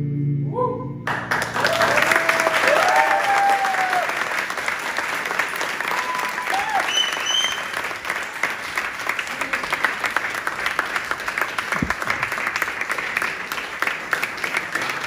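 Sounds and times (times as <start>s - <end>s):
audience applauding: 1.1s - 15.0s.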